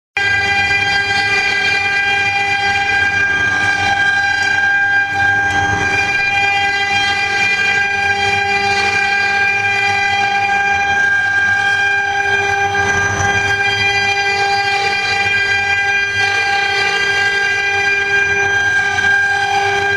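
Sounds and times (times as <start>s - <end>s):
wood lathe machine whine: 0.2s - 19.9s.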